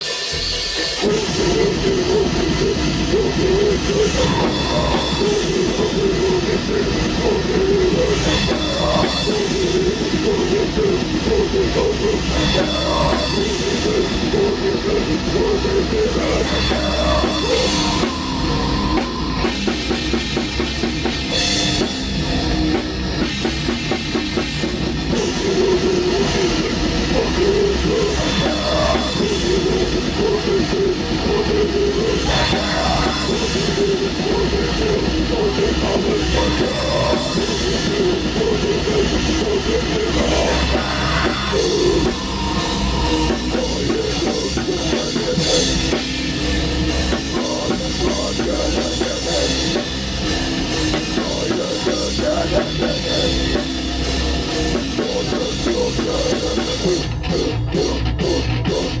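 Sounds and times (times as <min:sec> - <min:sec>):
drum kit playing: 0:00.0 - 0:59.0.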